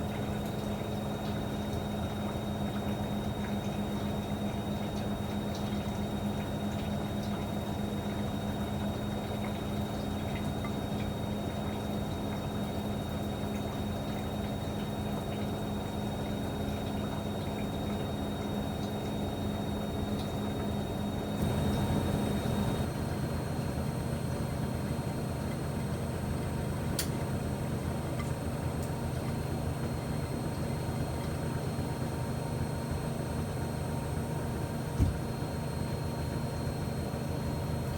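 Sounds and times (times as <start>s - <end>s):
washing machine motor hum: 0.0s - 37.9s.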